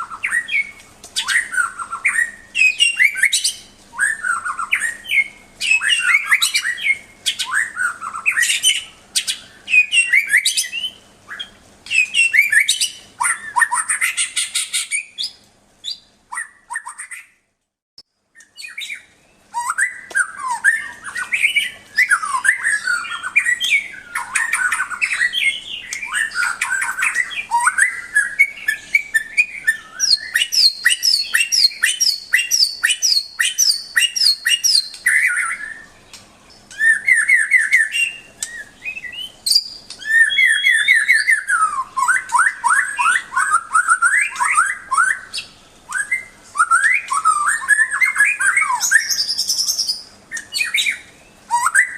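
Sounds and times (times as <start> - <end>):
bird singing whistled phrases: 0.0 - 17.4, 18.4 - 51.9.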